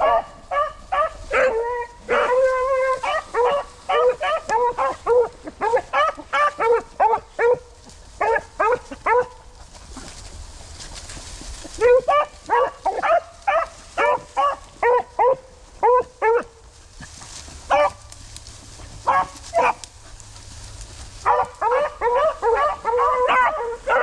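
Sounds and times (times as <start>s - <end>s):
hounds barking: 0.0s - 9.9s, 11.6s - 24.0s
overlapping chorus of dogs barking: 0.0s - 24.0s.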